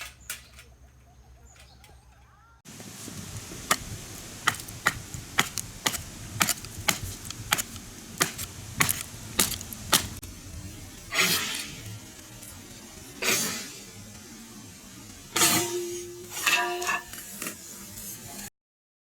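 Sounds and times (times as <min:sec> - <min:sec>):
steady hiss: 0:02.7 - 0:18.5.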